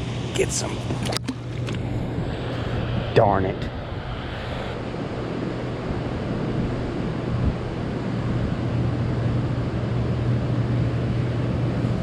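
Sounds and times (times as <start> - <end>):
low hum: 0.0 - 12.0
wind blowing across microphone: 0.0 - 12.0.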